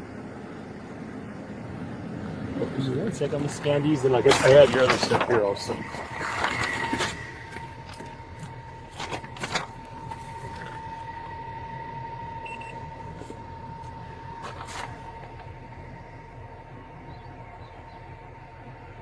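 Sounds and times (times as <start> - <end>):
thin high whine: 0.0 - 19.0
vehicle engine idling: 0.0 - 19.0.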